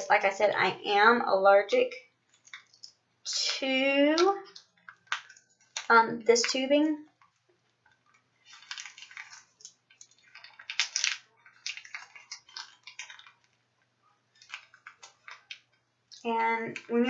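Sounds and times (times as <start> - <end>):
plastic dressing crinkling: 2.2 - 3.1, 4.0 - 17.0.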